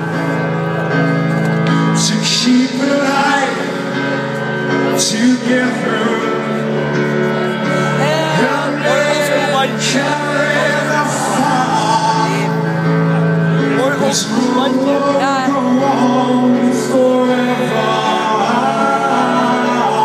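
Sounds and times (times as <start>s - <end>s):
live band playing slow song: 0.0s - 20.0s
man singing: 1.6s - 20.0s.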